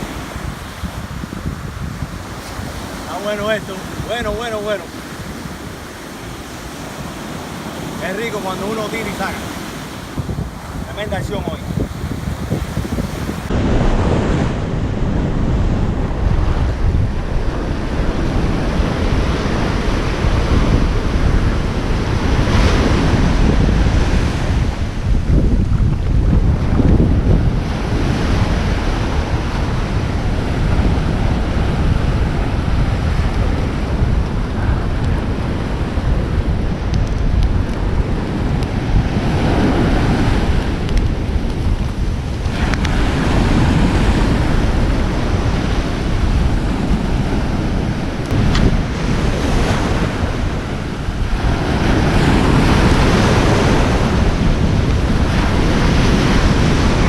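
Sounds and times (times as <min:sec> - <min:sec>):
ocean surf washing ashore: 0:00.0 - 0:57.0
wind buffeting microphone: 0:00.0 - 0:57.0.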